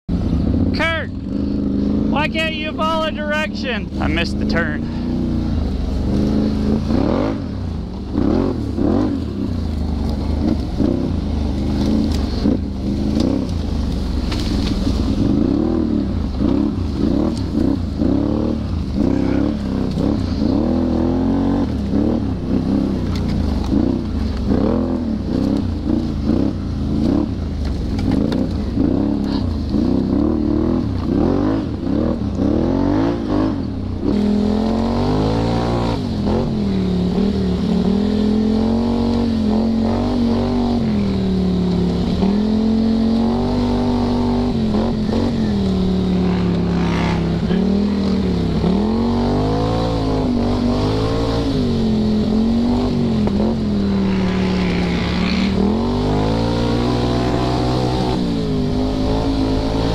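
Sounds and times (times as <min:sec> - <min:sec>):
atv engine revving: 0:00.1 - 0:59.9.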